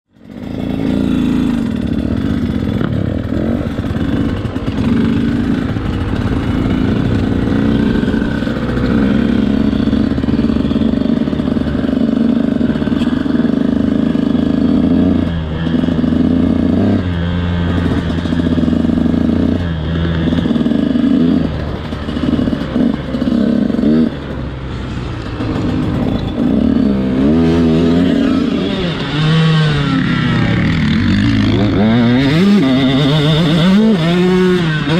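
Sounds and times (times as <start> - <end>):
motocross engine revving: 0.1 - 34.9.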